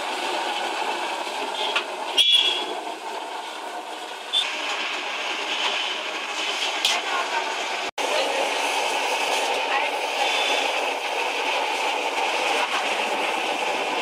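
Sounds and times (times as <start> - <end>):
batter deep-frying in oil: 0.0 - 14.0.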